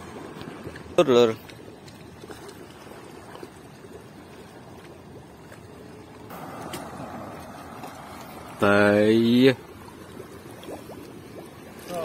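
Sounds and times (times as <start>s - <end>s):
rushing river water: 0.0s - 12.0s
water splashing from wading: 0.0s - 12.0s.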